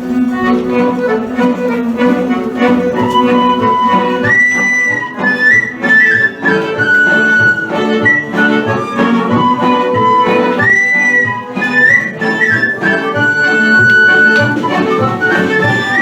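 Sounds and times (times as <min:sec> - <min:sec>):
flute melody: 0:00.0 - 0:16.0
string accompaniment: 0:00.0 - 0:16.0.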